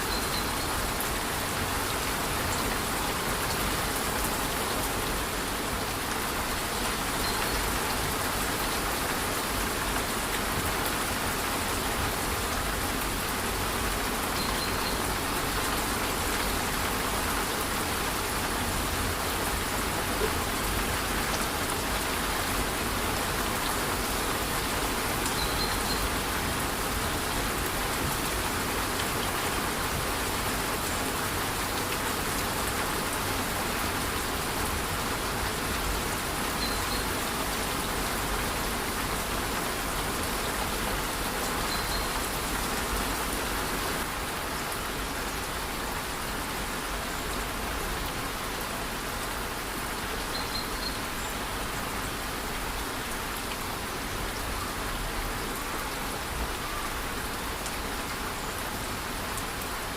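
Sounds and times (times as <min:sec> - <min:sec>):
light rain: 0:00.0 - 0:59.9.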